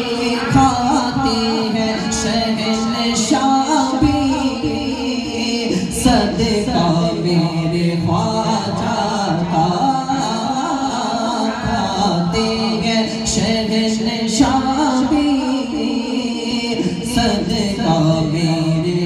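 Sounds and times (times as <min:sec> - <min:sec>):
devotional singing: 0:00.0 - 0:19.0.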